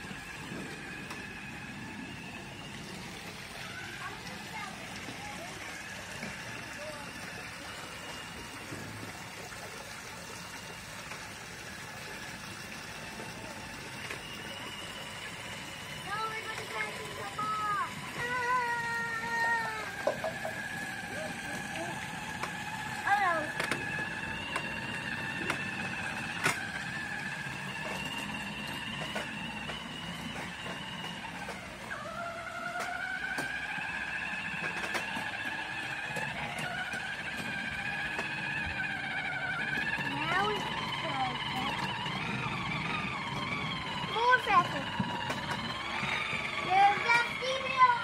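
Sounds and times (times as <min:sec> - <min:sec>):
water pouring into pool: 0:00.0 - 0:41.7
electric motor whining: 0:00.0 - 0:48.0.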